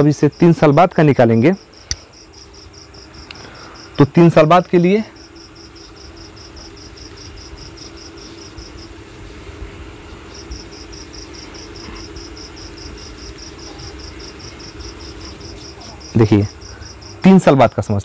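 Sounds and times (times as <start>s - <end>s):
insect chirping: 0.0s - 18.0s
steady low hum: 0.0s - 18.0s.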